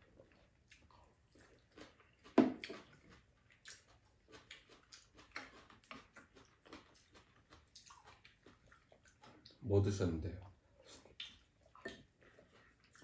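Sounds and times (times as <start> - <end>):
mouth smacks and chewing: 0.0 - 9.6, 10.4 - 13.0.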